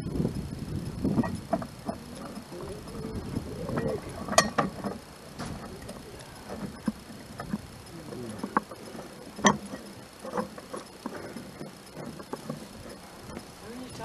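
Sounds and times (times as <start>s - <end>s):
hand tools and metal parts clicking: 0.9s - 14.0s.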